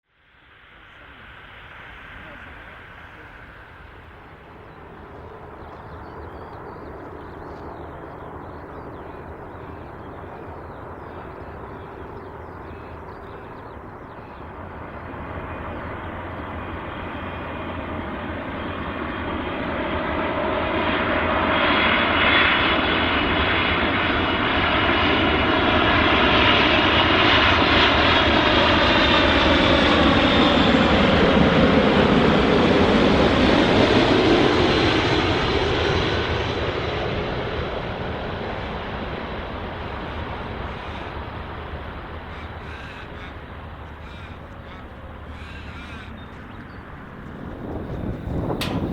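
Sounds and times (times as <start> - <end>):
jet plane approaching: 0.1 - 48.9.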